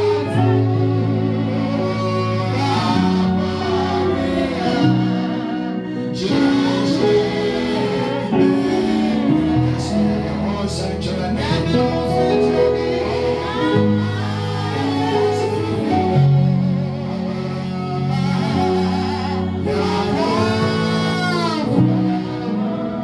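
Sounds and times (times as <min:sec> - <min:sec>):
gospel singing with instruments: 0:00.0 - 0:23.0.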